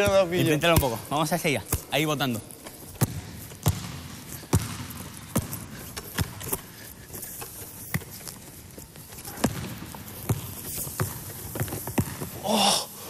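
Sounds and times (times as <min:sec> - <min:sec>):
basketball bouncing on hall floor: 0:00.0 - 0:12.5.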